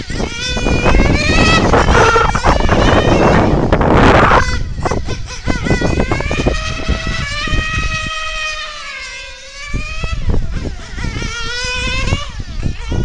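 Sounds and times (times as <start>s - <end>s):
rc car nitro engine whine: 0.0s - 13.0s.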